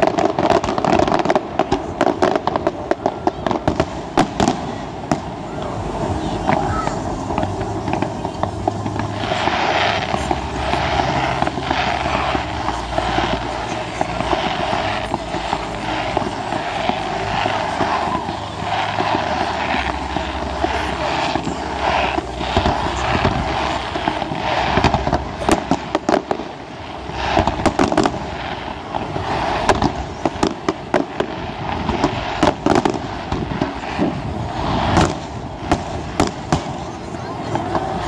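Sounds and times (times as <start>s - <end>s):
fireworks bursting with bangs: 0.0s - 38.0s
fireworks crackle and hiss: 0.0s - 38.0s.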